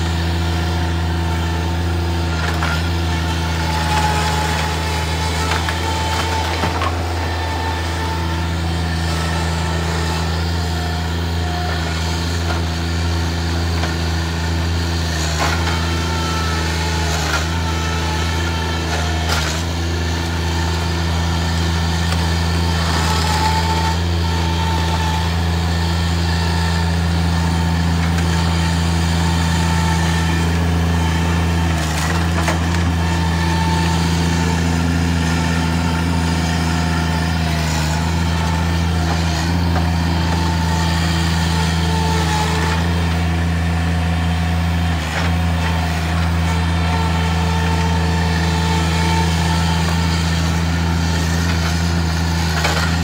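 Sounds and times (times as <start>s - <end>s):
loader diesel engine running: 0.0s - 53.0s.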